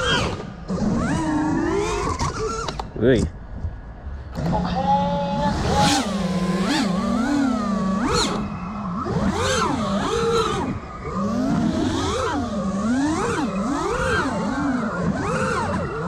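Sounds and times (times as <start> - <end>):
quadcopter motors whining: 0.0 - 3.3, 4.3 - 16.0.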